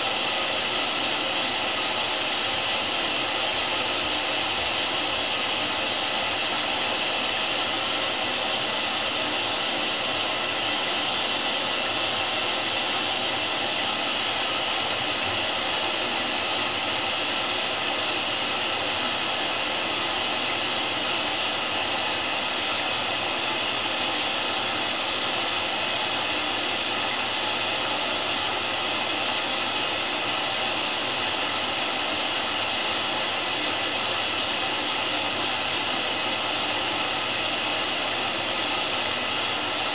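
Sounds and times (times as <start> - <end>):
washing machine hissing: 0.0 - 39.9.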